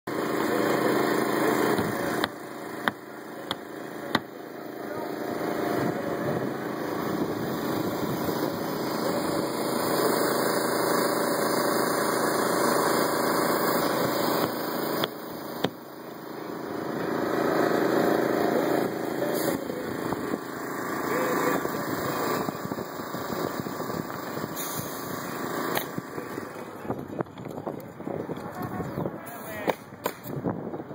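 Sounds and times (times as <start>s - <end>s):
small engine running: 0.1s - 30.4s.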